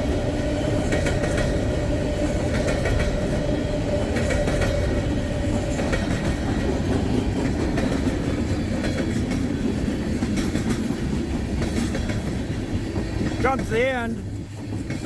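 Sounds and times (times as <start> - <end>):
train cars rumbling: 0.0 - 15.0
wheels clicking over rail joints: 0.0 - 15.0.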